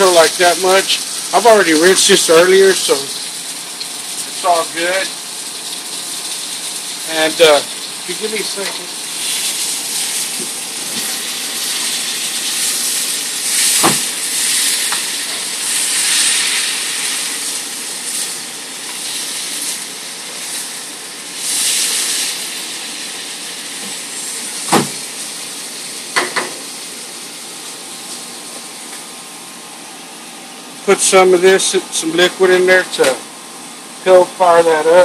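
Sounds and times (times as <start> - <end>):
steak sizzling in hot oil: 0.0 - 35.0.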